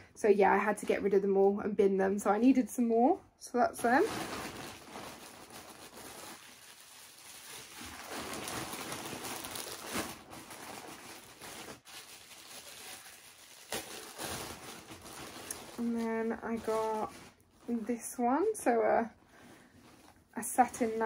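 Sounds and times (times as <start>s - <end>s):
clothes and packaging rustling: 3.6s - 21.0s.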